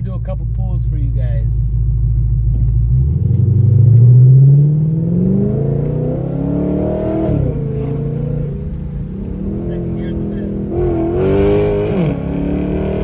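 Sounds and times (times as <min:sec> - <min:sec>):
car engine accelerating hard: 0:02.1 - 0:13.0.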